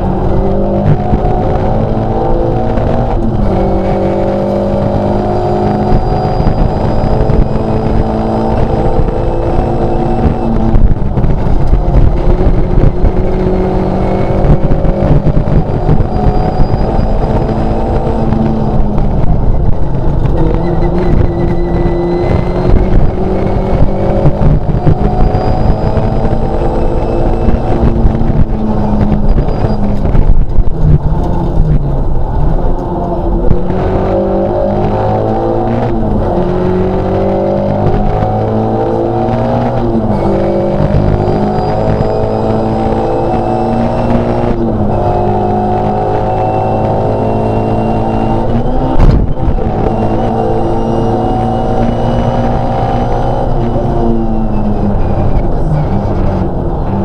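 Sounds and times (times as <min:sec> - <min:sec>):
car engine accelerating hard: 0:00.0 - 0:57.0
road and tyre rumble: 0:00.0 - 0:57.0.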